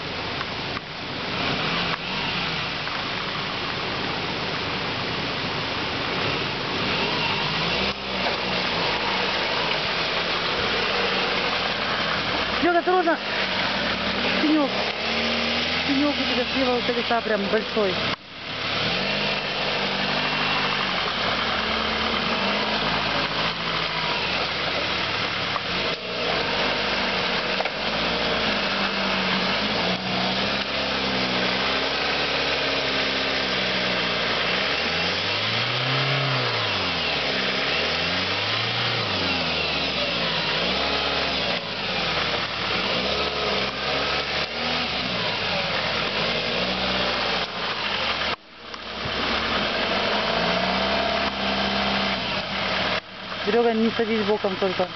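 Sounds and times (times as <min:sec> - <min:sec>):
car engine revving under load: 0:00.0 - 0:54.9.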